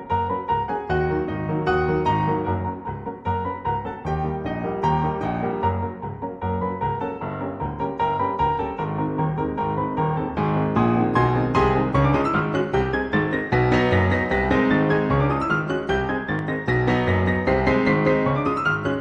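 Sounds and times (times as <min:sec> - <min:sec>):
piano music with steady beat: 0:00.0 - 0:19.0.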